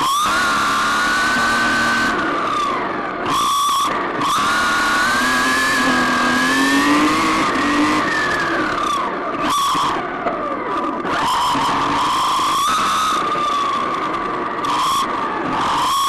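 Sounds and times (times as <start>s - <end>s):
toy car motor whining: 0.0s - 16.0s.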